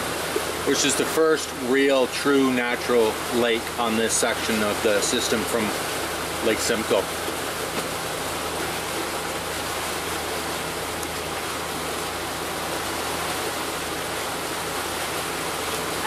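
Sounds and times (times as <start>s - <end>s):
boat engines droning: 0.0s - 16.0s
rushing water of boat under way: 0.0s - 16.0s.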